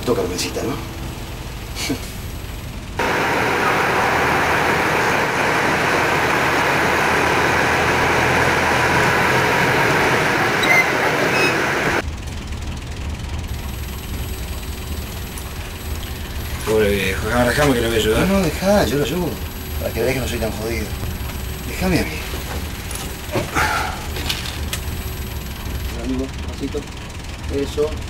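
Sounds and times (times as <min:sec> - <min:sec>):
bus engine and road noise: 0:00.0 - 0:28.0
bus engine low rumble: 0:00.0 - 0:28.0.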